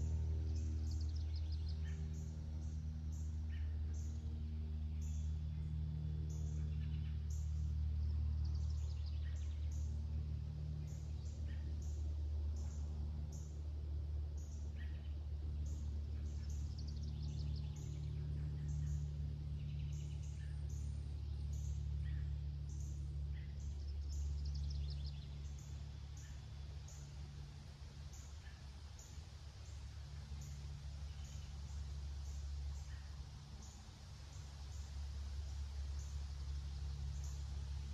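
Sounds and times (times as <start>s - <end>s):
songbirds chirping and trilling: 0.0s - 37.9s
steady low hum: 0.0s - 37.9s.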